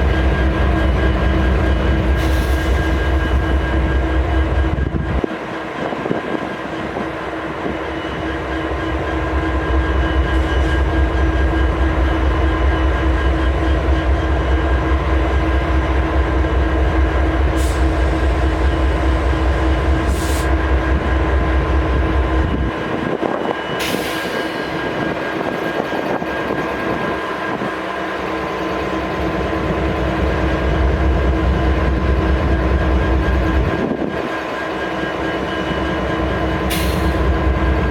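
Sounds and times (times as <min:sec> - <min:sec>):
locomotive engine droning: 0:00.0 - 0:37.9.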